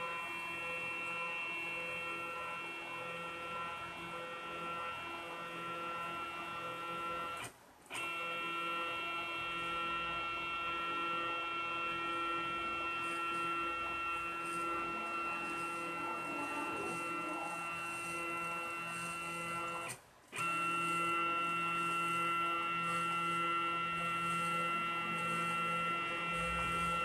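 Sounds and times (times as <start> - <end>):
cnc router electric whine: 0.0 - 27.0.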